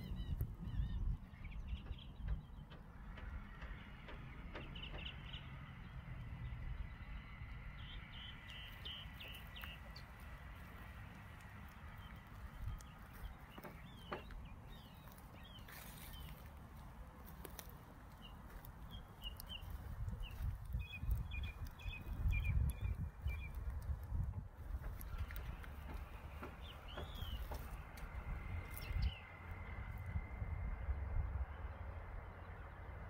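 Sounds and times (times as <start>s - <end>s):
small birds chirping: 0.0s - 33.0s
wind rumbling on microphone: 0.0s - 33.0s.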